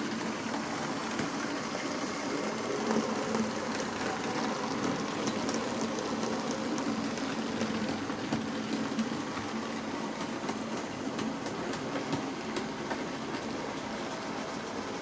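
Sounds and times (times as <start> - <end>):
wheels ticking on rails: 0.0 - 15.0.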